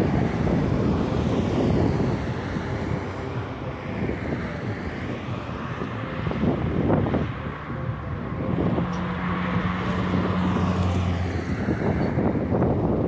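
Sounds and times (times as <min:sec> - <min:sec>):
diesel bus rumble approaching: 0:00.0 - 0:13.0
wind buffeting microphone: 0:00.0 - 0:13.0.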